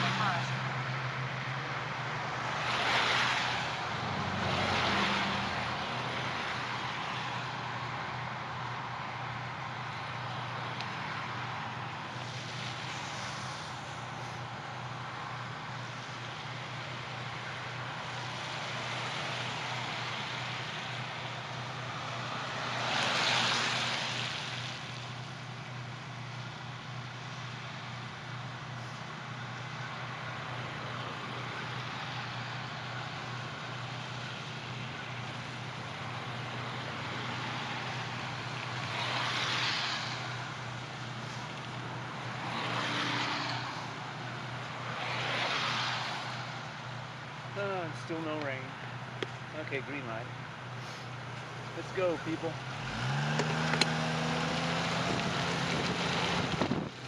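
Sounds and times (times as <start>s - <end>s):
cars passing: 0.0s - 57.0s
hum of road traffic: 0.0s - 57.0s.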